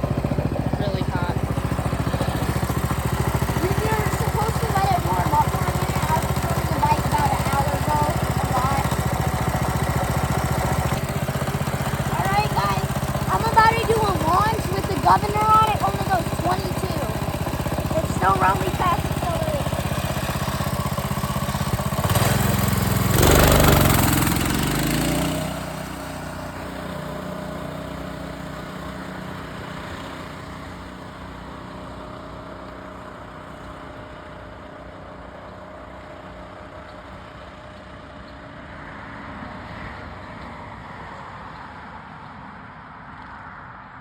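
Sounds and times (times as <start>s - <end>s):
mini bike engine idling and revving: 0.0s - 44.0s.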